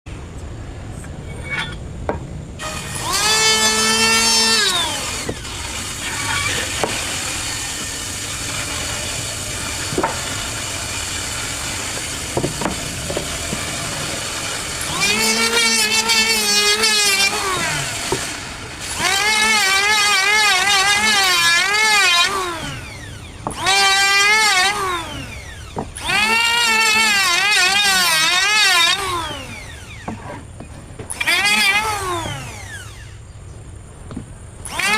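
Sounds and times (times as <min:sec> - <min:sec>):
electric wood planer running: 0:02.6 - 0:30.4, 0:31.1 - 0:33.2, 0:34.6 - 0:34.9
planer whine cutting a board: 0:02.6 - 0:33.2, 0:34.6 - 0:34.9.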